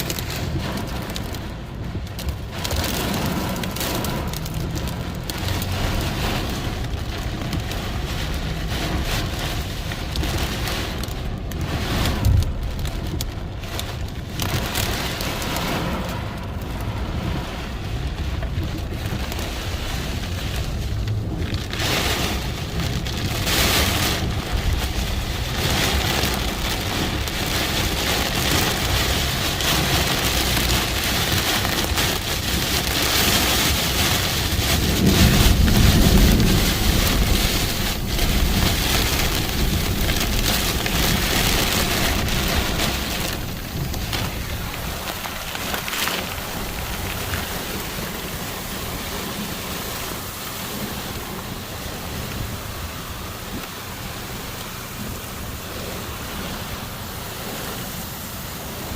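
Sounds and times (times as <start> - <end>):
heavy rain pouring: 0.0 - 58.9
low rumble: 0.1 - 28.9, 33.7 - 56.8.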